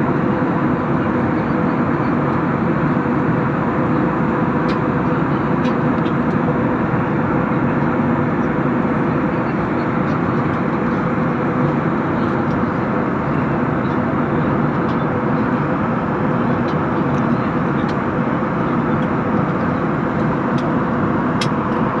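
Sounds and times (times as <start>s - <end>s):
jet engine and airflow rush: 0.0s - 22.0s.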